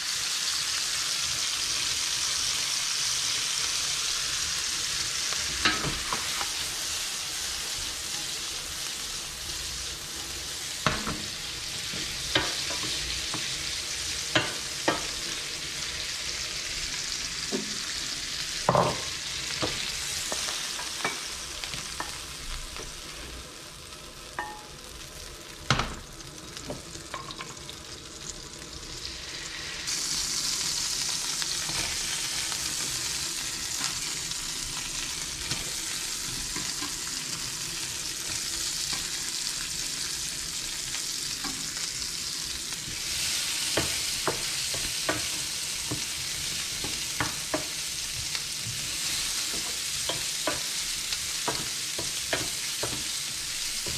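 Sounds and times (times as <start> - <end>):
food sizzling in a frying pan: 0.0 - 53.9.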